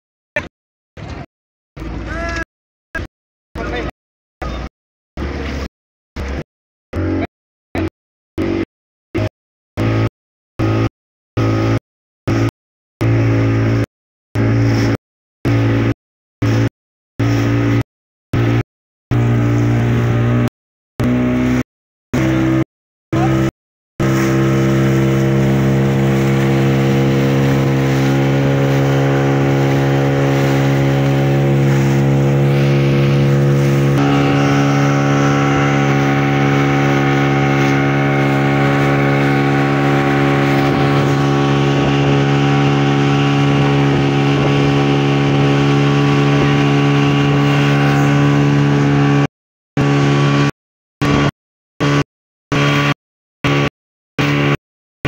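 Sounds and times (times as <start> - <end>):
outboard motor running: 0.4 - 54.6
water rushing along hull: 0.4 - 54.6.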